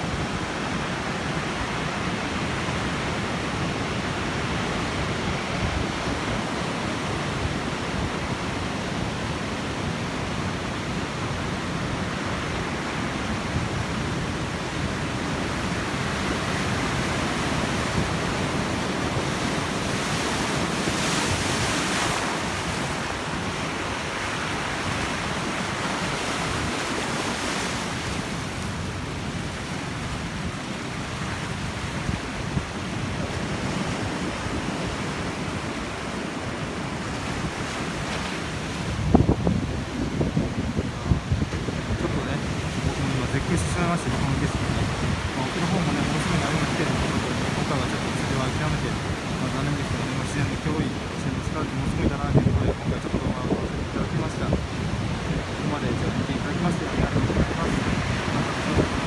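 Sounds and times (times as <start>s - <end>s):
heavy surf breaking: 0.0s - 59.0s
wind on microphone: 0.0s - 59.0s.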